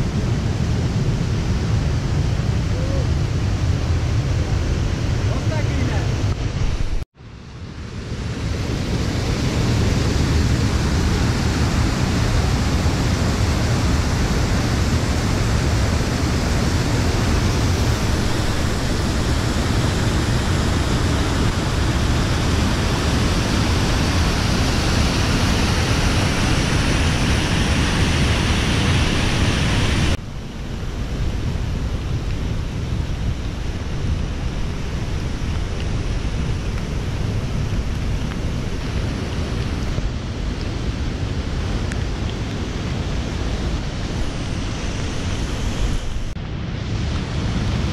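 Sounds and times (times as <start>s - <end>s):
mountain stream rushing: 0.0s - 47.9s.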